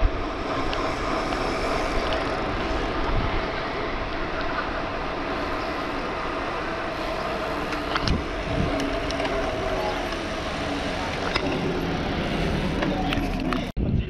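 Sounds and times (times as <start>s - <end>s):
tyre and road hiss: 0.0s - 13.6s
bicycle clicks: 0.0s - 13.7s
wind rush on microphone: 0.0s - 14.0s.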